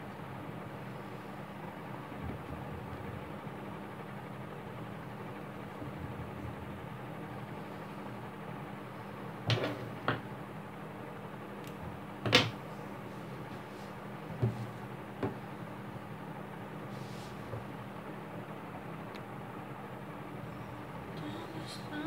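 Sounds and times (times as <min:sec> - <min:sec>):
background hiss and hum: 0:00.0 - 0:22.0.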